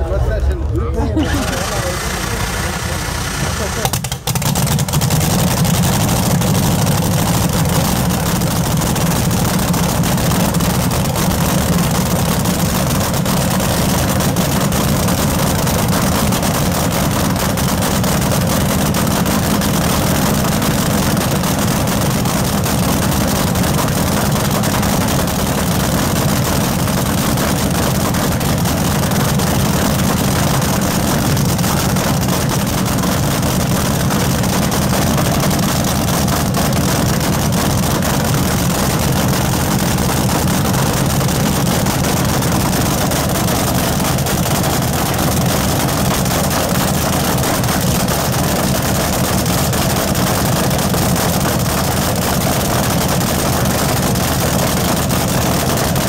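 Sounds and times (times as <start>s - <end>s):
dragster engine idling: 0.0s - 56.0s.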